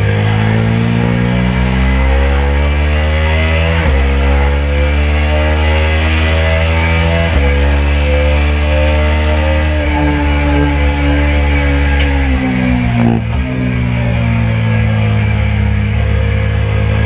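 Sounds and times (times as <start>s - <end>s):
motorcycle engine accelerating hard: 0.0s - 17.0s
quick gear upshifts: 0.0s - 17.0s.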